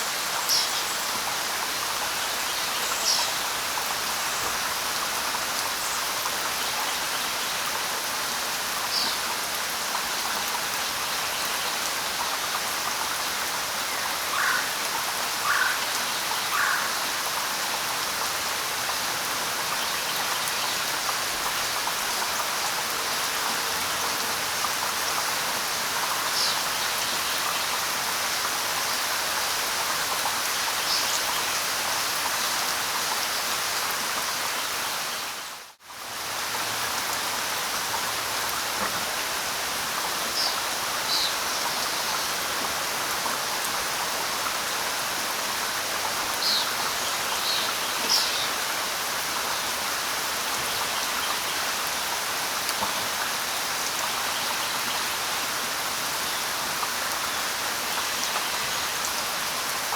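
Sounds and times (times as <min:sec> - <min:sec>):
light rain: 0:00.0 - 0:59.9.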